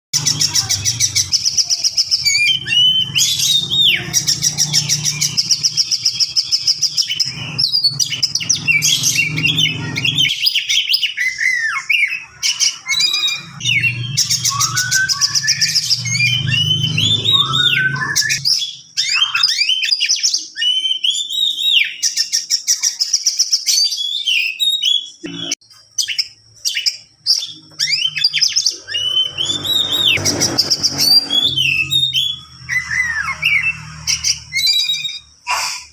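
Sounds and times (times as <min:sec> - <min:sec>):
bird singing trills and whistles: 0:00.2 - 0:35.9.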